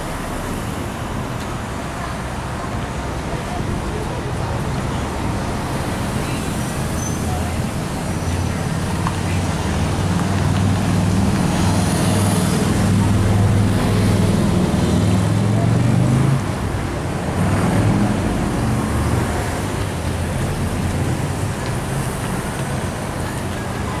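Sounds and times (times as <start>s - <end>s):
people talking: 1.2s - 24.0s.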